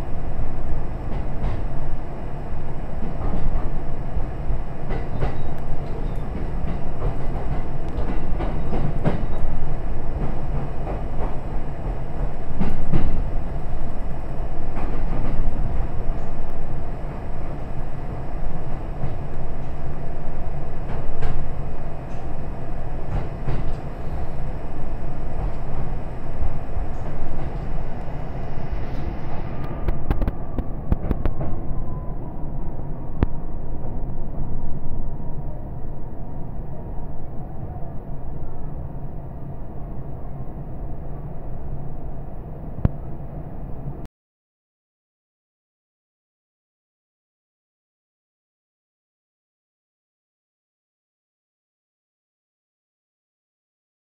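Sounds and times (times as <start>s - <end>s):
train rumbling on track: 0.0s - 44.1s.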